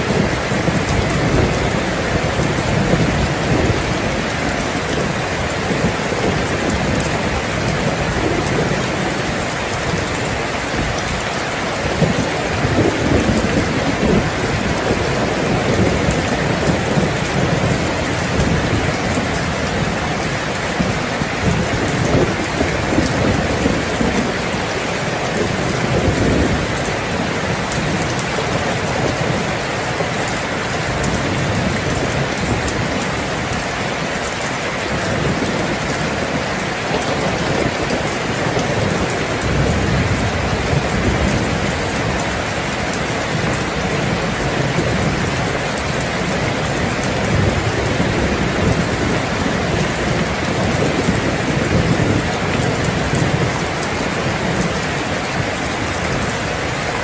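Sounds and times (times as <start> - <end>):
heavy rain falling: 0.0 - 57.0
low rolling thunder: 0.0 - 57.0.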